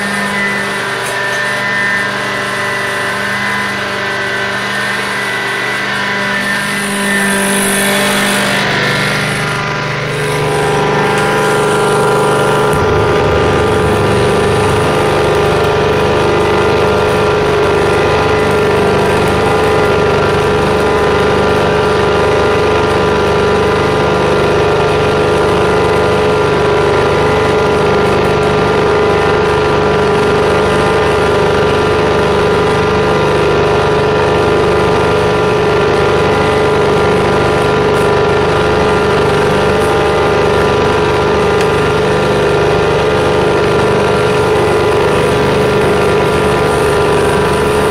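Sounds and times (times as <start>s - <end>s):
carpet cleaning engine rumbling: 0.0s - 47.9s
steady multi-tone whine: 0.0s - 47.9s.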